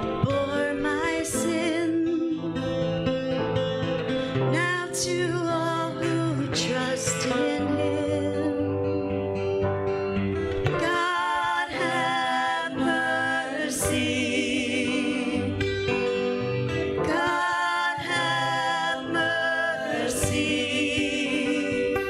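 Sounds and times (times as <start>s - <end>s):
person singing with vibrato: 0.0s - 2.8s, 4.4s - 9.2s, 10.7s - 15.9s, 16.8s - 22.0s
guitar accompaniment: 0.0s - 22.0s.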